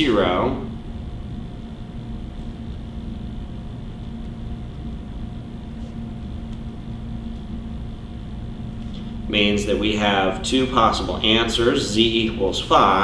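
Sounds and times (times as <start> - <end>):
electrical hum: 0.0 - 13.0
low rumble and hiss: 0.0 - 13.0.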